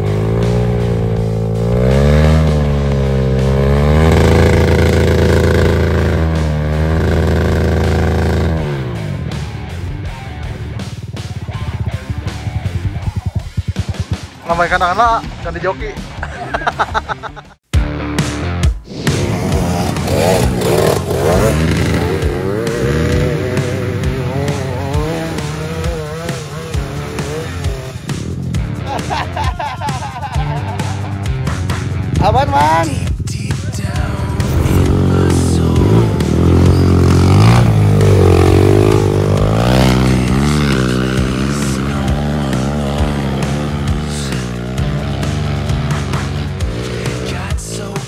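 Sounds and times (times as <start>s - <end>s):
dirt bike engine revving: 0.0s - 15.1s, 18.8s - 48.0s.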